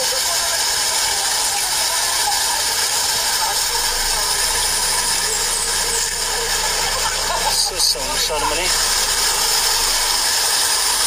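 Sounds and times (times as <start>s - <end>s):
faint low engine hum: 0.0s - 11.0s
heavy rain falling: 0.0s - 11.0s.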